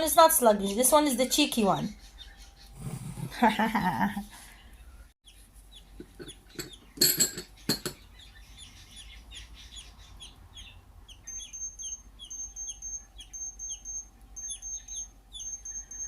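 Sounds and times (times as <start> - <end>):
budgie chicks chirping: 0.0 - 3.7, 4.4 - 16.0.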